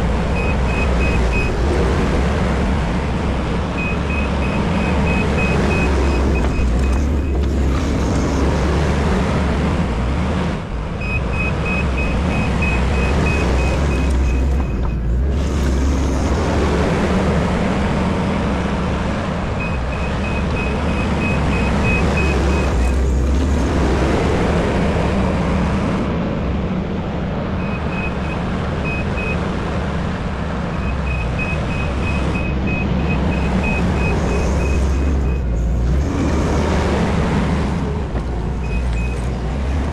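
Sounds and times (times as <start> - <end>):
diesel machine engine running: 0.0 - 26.3, 28.5 - 39.9.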